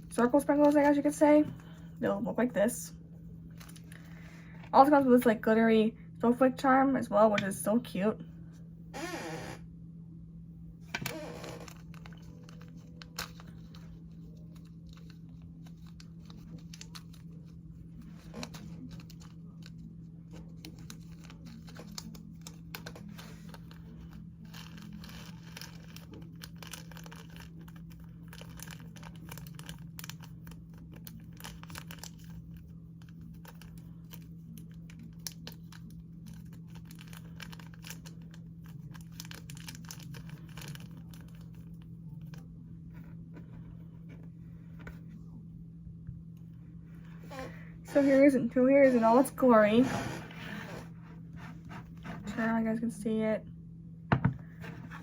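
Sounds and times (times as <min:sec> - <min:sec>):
steady low electrical hum: 0:00.0 - 0:55.0.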